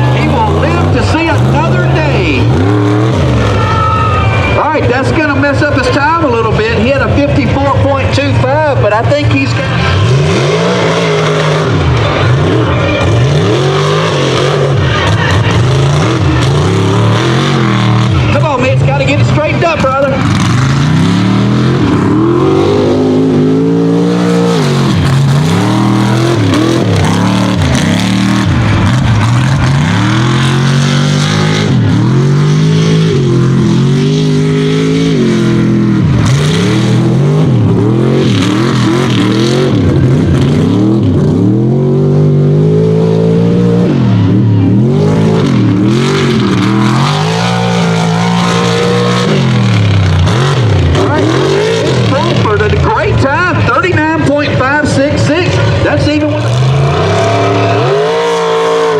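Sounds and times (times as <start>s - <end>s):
truck engine revving hard: 0.0s - 58.9s.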